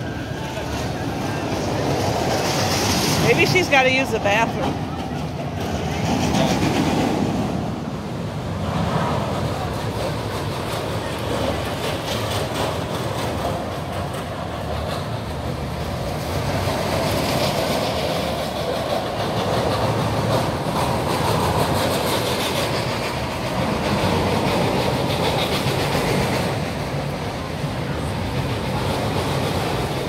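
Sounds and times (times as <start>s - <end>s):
rail vehicle rumbling on track: 0.0s - 30.0s.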